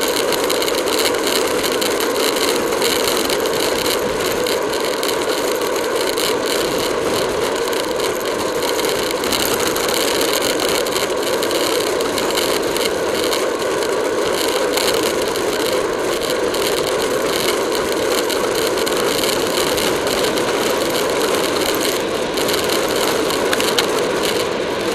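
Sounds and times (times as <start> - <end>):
bicycle tyre noise: 0.0 - 24.9
rattle of small clicks: 0.0 - 24.9.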